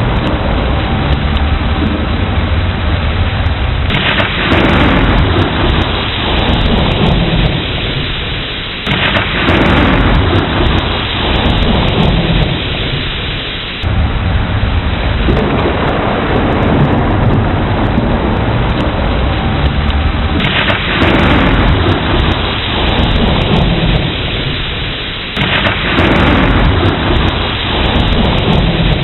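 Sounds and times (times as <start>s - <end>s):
heavy rain: 0.0s - 29.0s
low rolling thunder: 0.0s - 29.0s.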